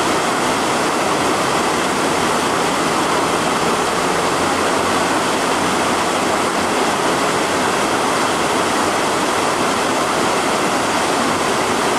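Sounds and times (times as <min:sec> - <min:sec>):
water rushing along canal: 0:00.0 - 0:11.9.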